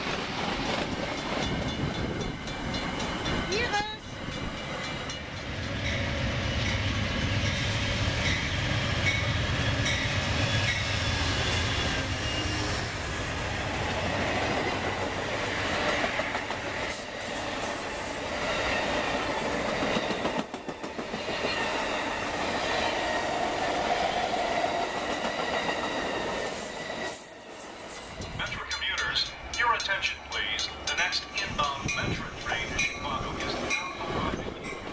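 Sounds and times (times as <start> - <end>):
passenger train passing: 0.0 - 34.9.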